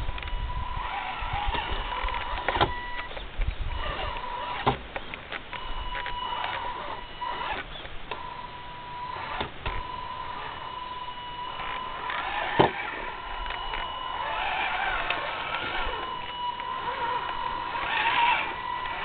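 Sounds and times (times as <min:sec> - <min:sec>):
electric motor and gearbox whining: 0:00.0 - 0:19.0.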